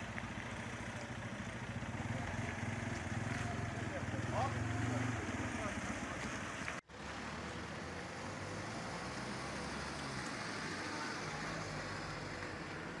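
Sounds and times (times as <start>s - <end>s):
outdoor street noise: 0.0s - 13.0s.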